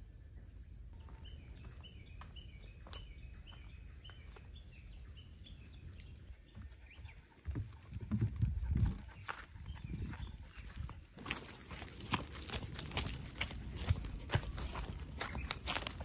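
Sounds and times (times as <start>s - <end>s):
small bird singing: 0.0s - 7.5s, 9.1s - 16.0s.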